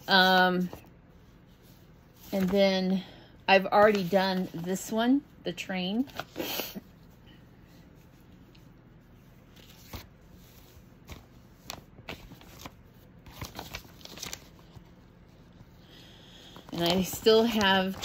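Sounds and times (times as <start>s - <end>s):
soft rustles of fabric handling: 0.0s - 15.8s.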